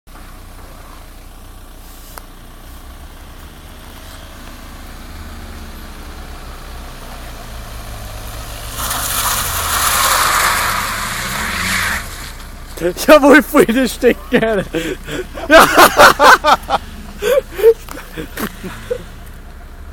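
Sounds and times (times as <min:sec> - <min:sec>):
car engine rumbling: 0:00.1 - 0:19.9
tyres sliding on wet tarmac: 0:00.1 - 0:19.9.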